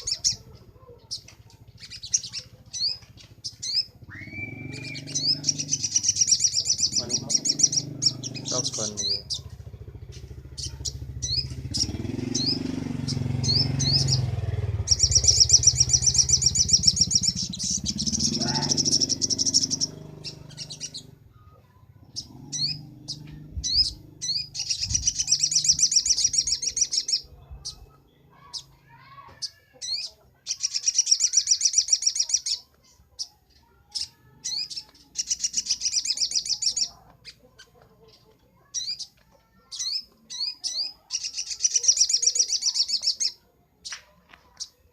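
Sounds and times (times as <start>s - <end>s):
bird singing rapid trills: 0.0s - 44.0s
bird chirps: 0.0s - 44.9s.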